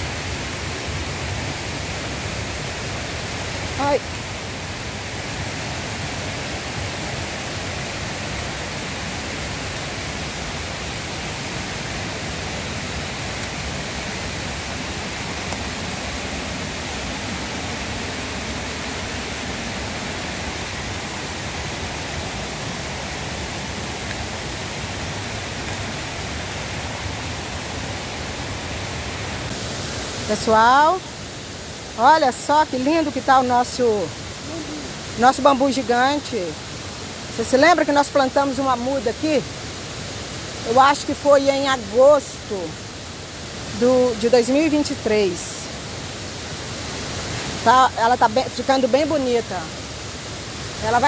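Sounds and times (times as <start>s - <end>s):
river rushing: 0.0s - 51.0s.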